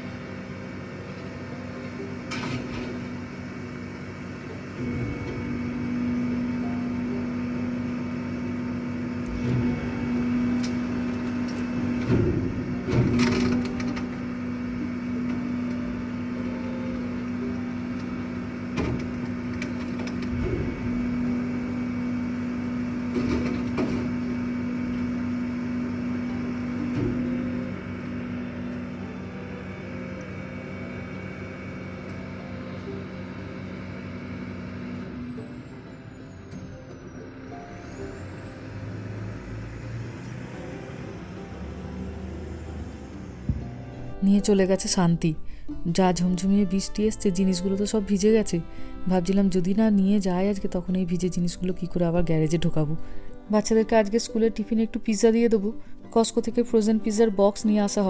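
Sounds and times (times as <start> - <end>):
truck engine humming: 0.0 - 58.0.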